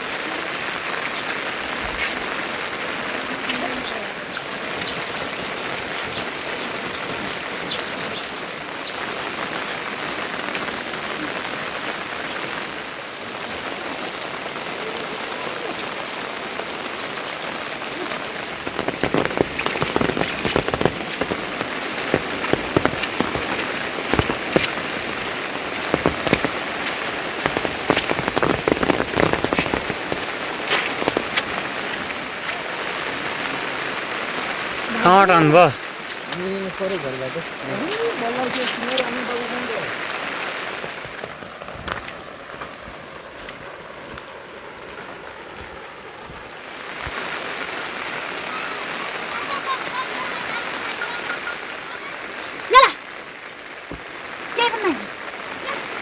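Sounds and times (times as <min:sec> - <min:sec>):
sharp drops and drips: 0:00.0 - 0:56.0
steady rain falling: 0:00.0 - 0:56.0.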